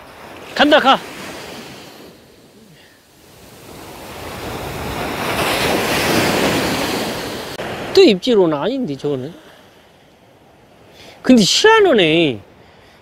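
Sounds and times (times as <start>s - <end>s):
waves breaking on a beach: 0.0s - 13.0s.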